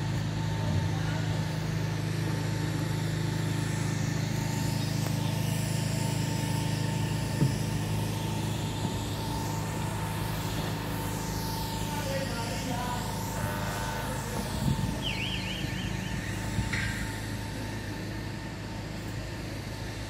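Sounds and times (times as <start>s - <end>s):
engine running with low hum: 0.0s - 20.0s
faint steady whine: 0.0s - 20.0s.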